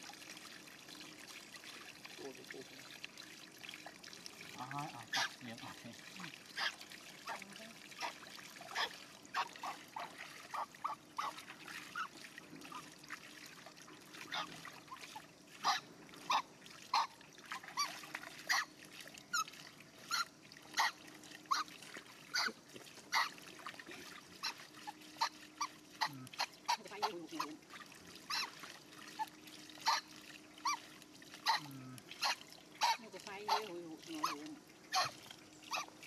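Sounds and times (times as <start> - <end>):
water splashing: 0.0 - 36.0
water trickling into metal basin: 0.0 - 36.0.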